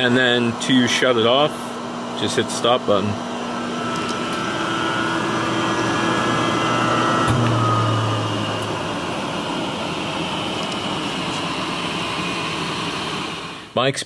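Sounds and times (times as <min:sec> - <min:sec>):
motor spinning down: 0:00.0 - 0:13.7
motor humming: 0:00.0 - 0:13.8.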